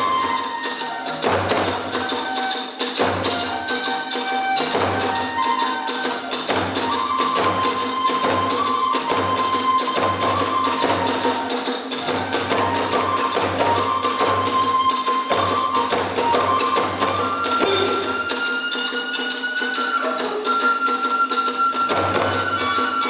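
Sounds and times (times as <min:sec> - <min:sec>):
drum beats: 0:00.0 - 0:20.5, 0:21.6 - 0:23.0
bamboo flute melody: 0:00.0 - 0:23.0
small hand cymbals clashing: 0:00.0 - 0:23.0.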